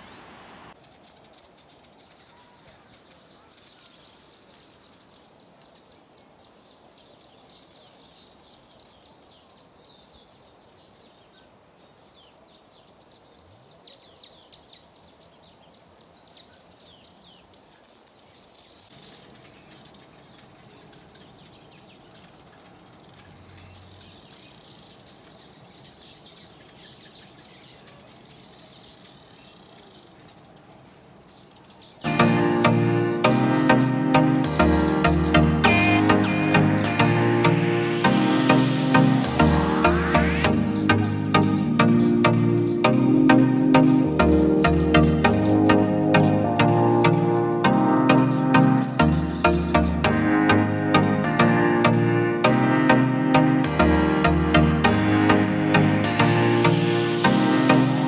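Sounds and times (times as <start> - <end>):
weaver birds chattering: 0.0 - 51.2.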